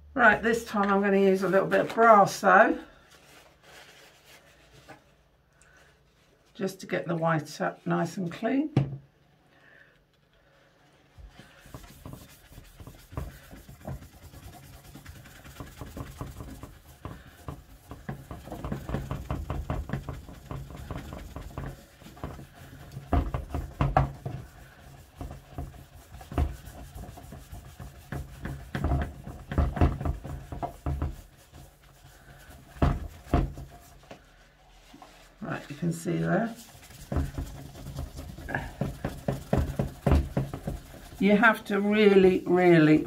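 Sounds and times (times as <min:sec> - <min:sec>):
cotton pad scrubbing metal: 0:00.2 - 0:05.0, 0:11.0 - 0:43.0.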